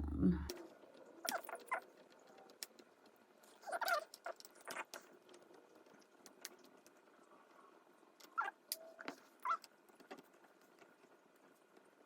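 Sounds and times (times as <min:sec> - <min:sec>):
faint plastic clicks: 0:00.5 - 0:12.0.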